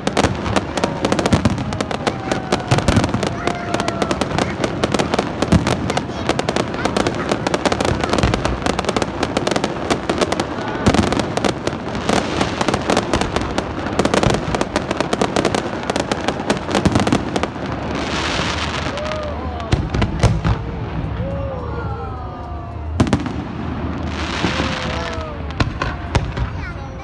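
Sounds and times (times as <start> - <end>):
heavy firework bangs: 0.0 - 21.2, 22.8 - 27.0
fireworks bangs and crackles: 0.0 - 27.0.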